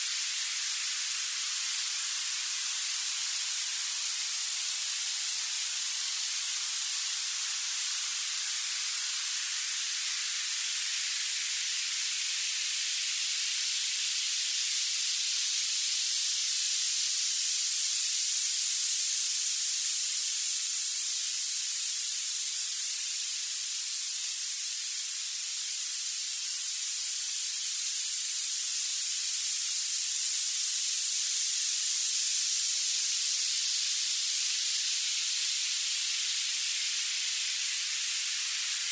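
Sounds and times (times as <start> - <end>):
high-pitched steady hiss: 0.0 - 38.9.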